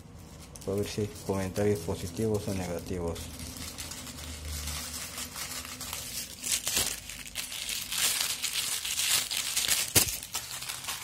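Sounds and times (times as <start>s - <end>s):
plastic bag crinkling: 0.2s - 11.0s.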